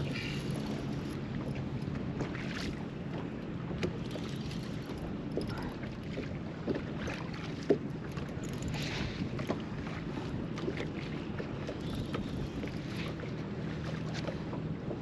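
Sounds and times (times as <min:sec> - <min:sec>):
wind buffeting microphone: 0:00.0 - 0:13.6
water lapping against boat hull: 0:00.0 - 0:15.0.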